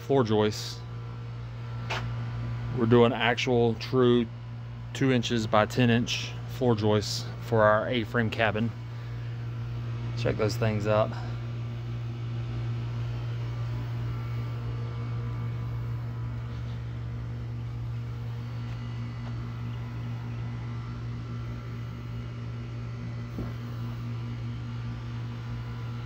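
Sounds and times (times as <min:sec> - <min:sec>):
sawmill engine idling: 0:00.0 - 0:26.0.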